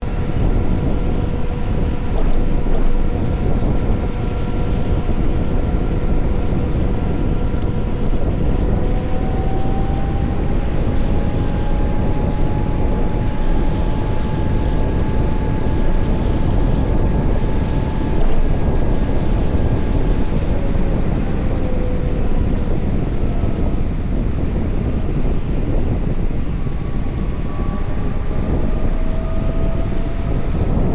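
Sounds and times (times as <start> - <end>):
wind noise on microphone: 0.0 - 30.9
electric motor whine: 0.1 - 30.9.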